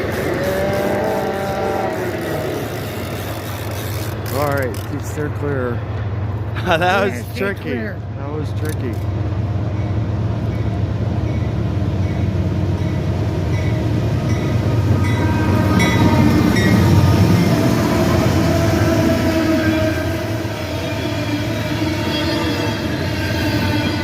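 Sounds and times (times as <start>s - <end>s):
train wheels rumbling on rail: 0.0s - 6.7s, 8.0s - 24.0s.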